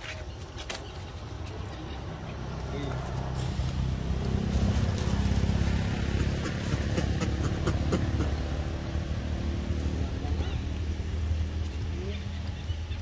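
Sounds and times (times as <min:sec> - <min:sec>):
dry leaves rustling: 0:00.0 - 0:13.0.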